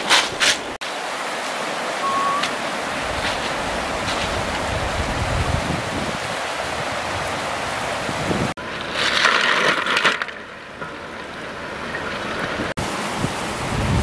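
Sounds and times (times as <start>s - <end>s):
river water rushing over stones: 0.0s - 14.0s.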